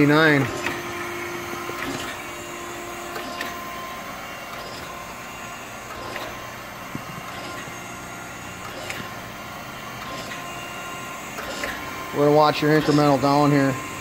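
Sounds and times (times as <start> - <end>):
surface grinder hum: 0.0 - 14.0.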